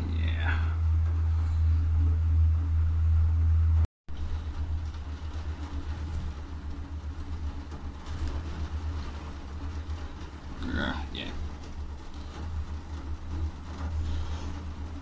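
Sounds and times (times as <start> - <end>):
cable car cabin rumble: 0.0 - 15.0.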